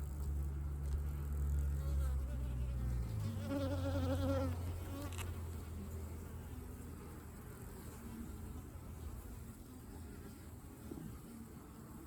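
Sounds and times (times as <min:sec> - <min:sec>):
honey bees buzzing: 0:00.1 - 0:12.0.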